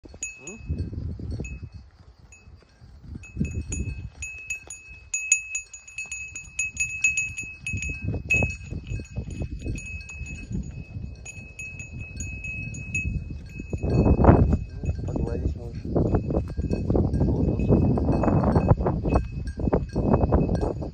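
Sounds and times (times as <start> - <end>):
cow bell clinking: 0.0 - 20.9.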